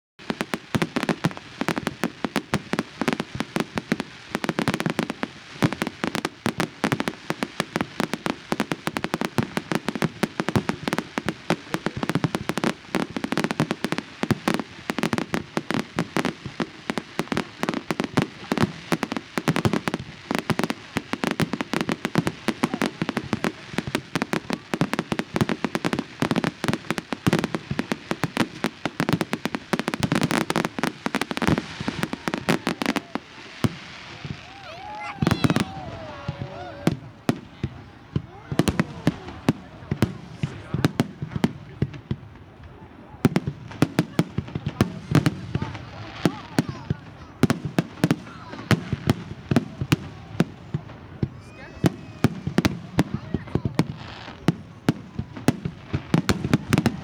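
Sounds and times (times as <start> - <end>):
fireworks bangs and crackles: 0.2 - 57.0.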